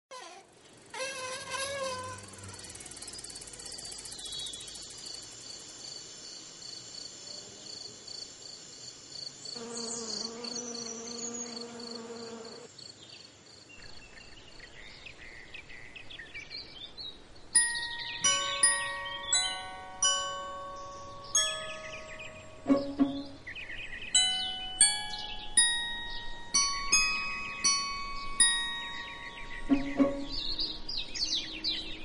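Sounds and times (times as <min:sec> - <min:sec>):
crickets chirping: 0:00.6 - 0:14.4, 0:17.2 - 0:32.0.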